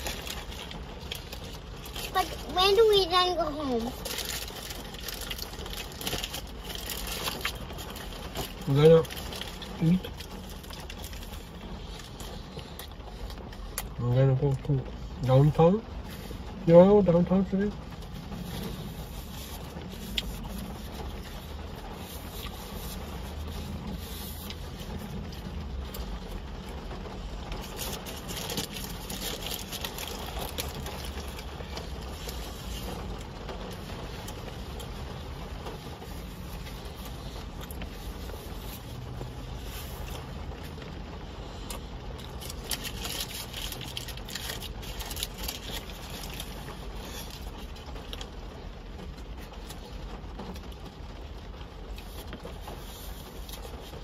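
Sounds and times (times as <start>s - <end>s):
car low hum: 0.0s - 54.0s
heavy rain on car roof: 0.0s - 54.0s.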